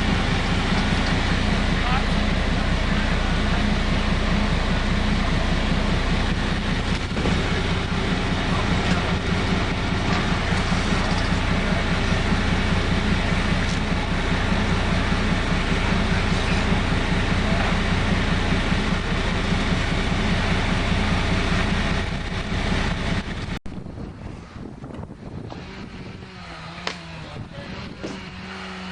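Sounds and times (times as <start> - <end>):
road noise: 0.0 - 28.9
vehicle engine drone: 0.0 - 28.9.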